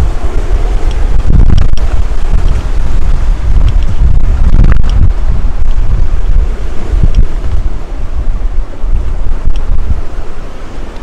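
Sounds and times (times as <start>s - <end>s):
sea surf: 0.0s - 11.0s
wind buffeting microphone: 0.0s - 11.0s.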